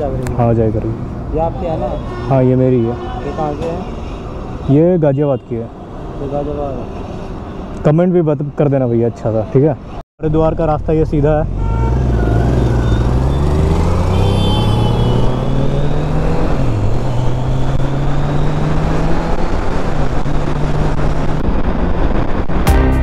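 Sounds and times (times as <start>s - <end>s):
wind and road noise: 0.0s - 22.7s.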